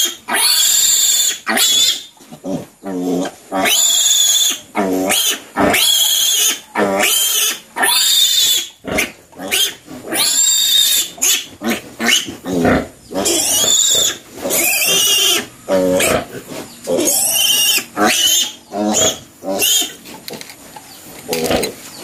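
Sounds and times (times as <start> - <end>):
piglet squealing: 0.0 - 2.1, 3.6 - 16.2, 17.0 - 19.9.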